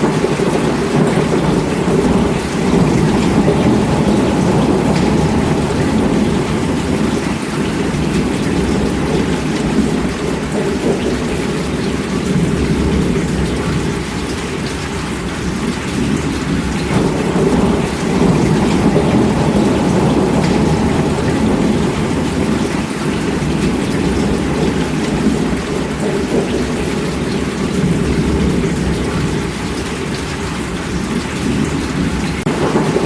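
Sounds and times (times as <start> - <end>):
heavy rain: 0.0 - 33.0
low rumble of thunder: 0.0 - 33.0.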